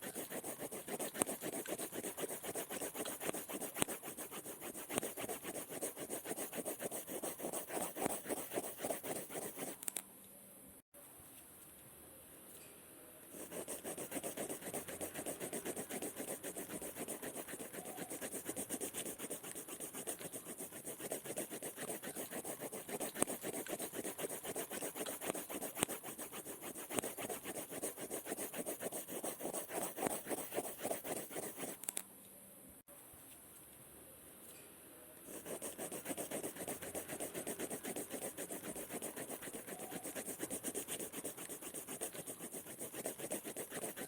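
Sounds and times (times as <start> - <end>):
pen scribbling on paper: 0.0 - 9.8, 13.4 - 31.8, 35.3 - 44.0.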